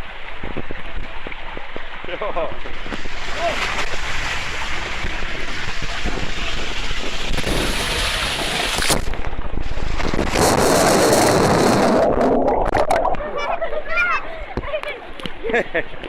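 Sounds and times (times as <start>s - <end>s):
wind on microphone: 0.0s - 14.7s.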